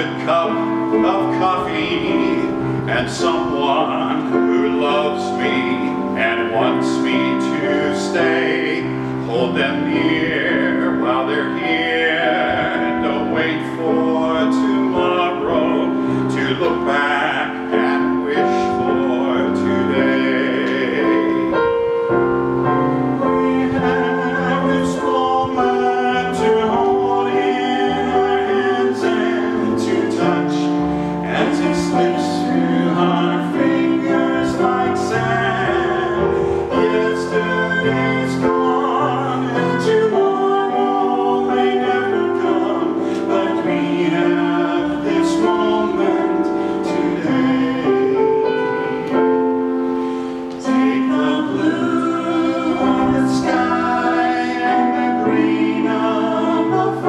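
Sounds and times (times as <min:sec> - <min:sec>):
man singing a hymn: 0:00.0 - 0:22.0, 0:22.6 - 0:49.8, 0:50.4 - 0:57.0
keyboard chords: 0:00.0 - 0:57.0.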